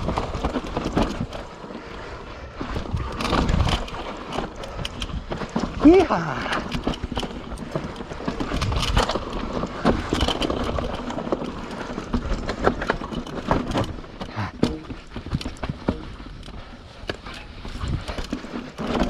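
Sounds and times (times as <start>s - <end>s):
bike frame and chain rattling: 0.0s - 19.0s
bike tyres on dirt and roots: 0.0s - 19.0s.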